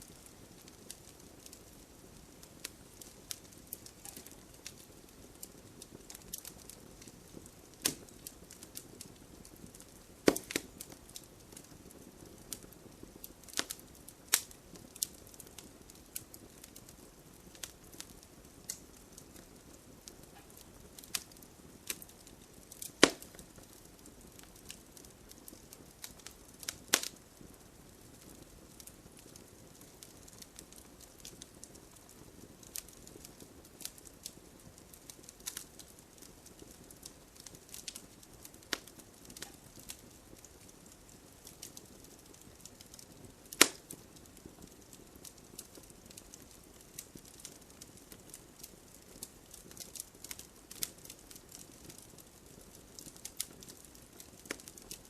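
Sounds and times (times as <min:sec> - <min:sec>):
logs popping and cracking: 0:00.0 - 0:27.2, 0:32.6 - 0:55.0
wood fire hissing: 0:00.0 - 0:55.0.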